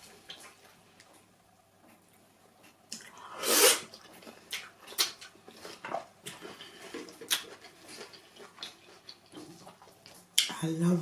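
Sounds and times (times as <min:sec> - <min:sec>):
mouth chewing and lip smacks: 0:00.0 - 0:10.6.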